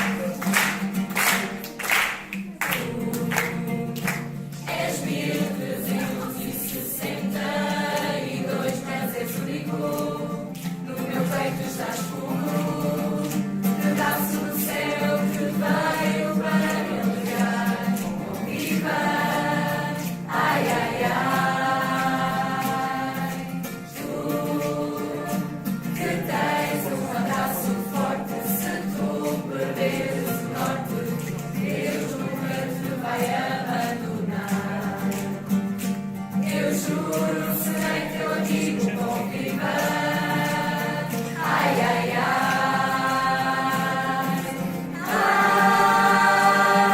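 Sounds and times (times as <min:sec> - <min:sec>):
choir singing religious song: 0:00.0 - 0:46.9.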